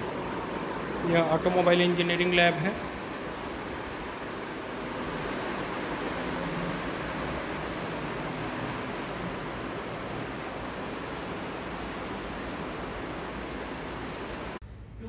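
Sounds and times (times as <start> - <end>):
steady rushing noise: 0.0 - 14.6.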